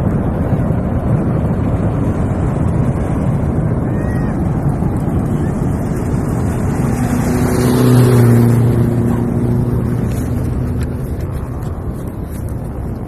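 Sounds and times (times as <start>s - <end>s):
engine humming: 0.0s - 13.0s
wind buffeting microphone: 0.0s - 13.0s.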